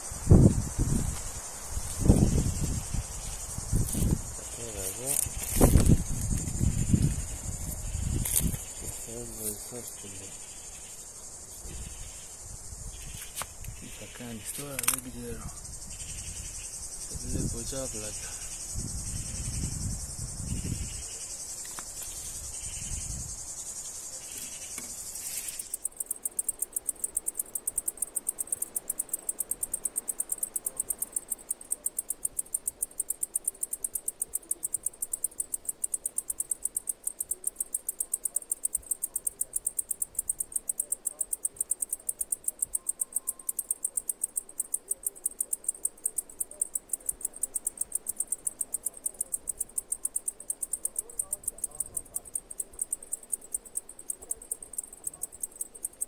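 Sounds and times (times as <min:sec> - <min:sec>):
cicada buzzing and ticking: 0:00.0 - 0:56.0.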